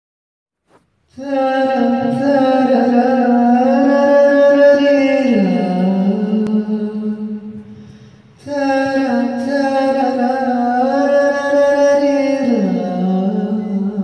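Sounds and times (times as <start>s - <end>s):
man singing unaccompanied: 1.1s - 7.7s, 8.4s - 14.0s.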